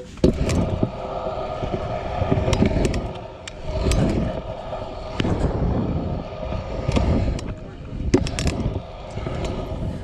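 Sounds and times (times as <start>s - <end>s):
scooter wheels rolling on concrete: 0.0s - 10.0s
scooter wheel and deck clicks: 0.1s - 5.4s, 6.5s - 9.9s.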